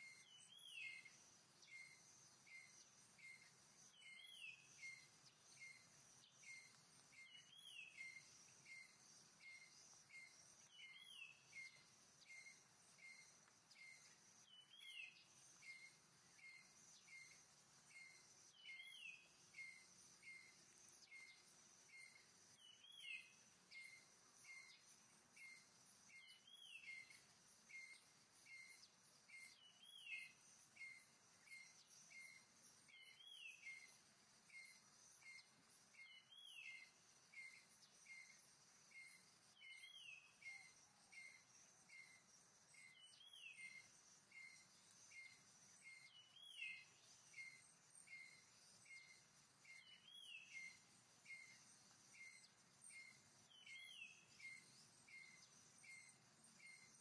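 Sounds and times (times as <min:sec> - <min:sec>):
bird chirping: 0:00.0 - 0:57.0
insect hum: 0:00.0 - 0:57.0.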